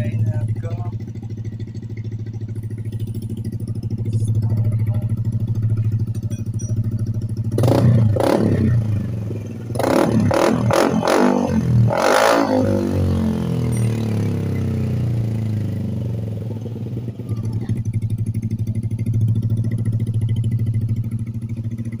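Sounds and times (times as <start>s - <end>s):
scooter engine revving and idling: 0.0s - 22.0s.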